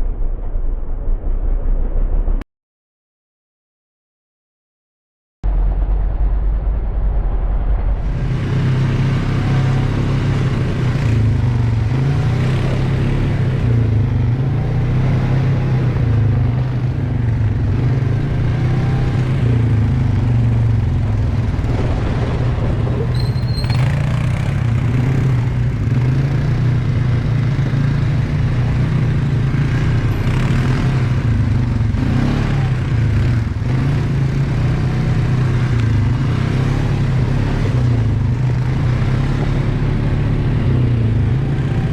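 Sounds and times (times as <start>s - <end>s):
quad bike engine running: 8.2s - 41.9s.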